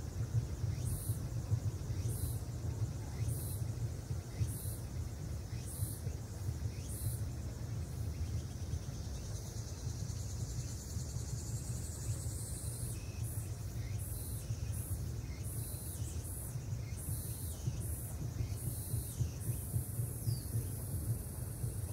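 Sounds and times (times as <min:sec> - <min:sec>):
insects chirping: 0:00.0 - 0:21.9.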